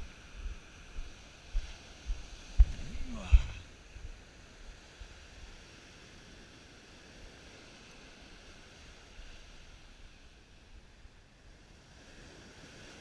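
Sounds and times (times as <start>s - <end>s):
ocean surf: 0.0s - 13.0s
wind: 0.0s - 13.0s.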